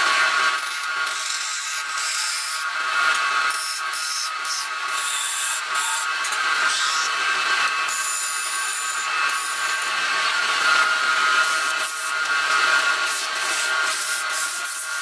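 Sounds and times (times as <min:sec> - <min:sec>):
wood lathe whining: 0:00.0 - 0:15.0.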